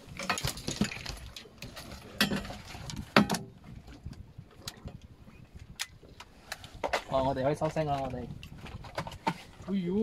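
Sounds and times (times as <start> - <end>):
knocks and ticks on a boat: 0.2 - 5.1, 5.7 - 9.8.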